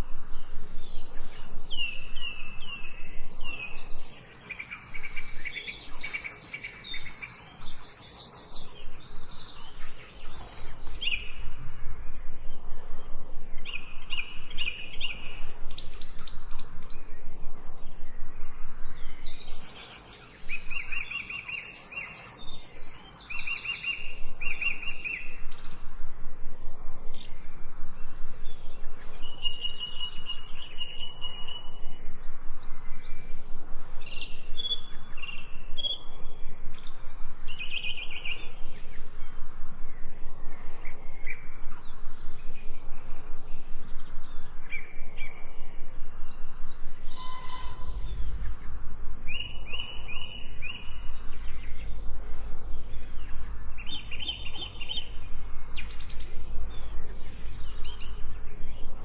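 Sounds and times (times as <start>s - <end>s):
forest birds chirping and singing: 0.0s - 59.0s.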